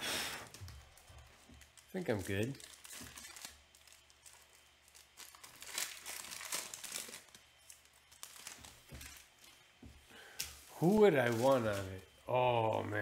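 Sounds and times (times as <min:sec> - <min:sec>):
wrappers crinkling and tearing: 0:00.4 - 0:09.6, 0:10.4 - 0:13.0.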